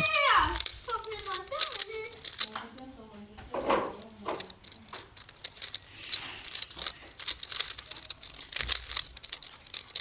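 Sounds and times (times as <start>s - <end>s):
puzzle cube plastic clicks: 0.0s - 10.0s.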